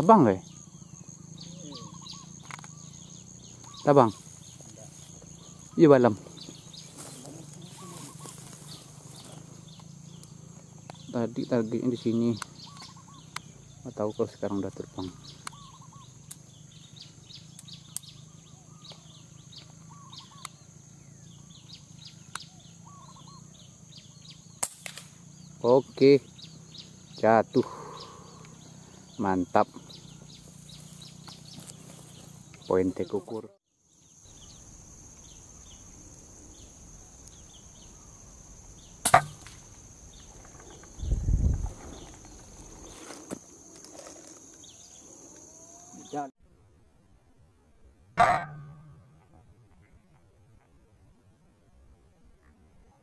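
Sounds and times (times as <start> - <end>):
faint birds chirping: 0.0 - 46.4.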